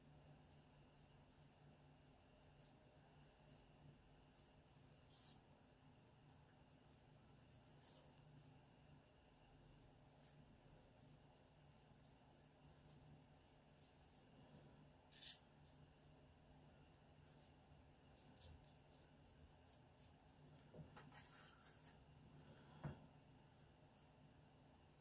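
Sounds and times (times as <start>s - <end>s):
brush strokes on paper: 0.2s - 25.0s.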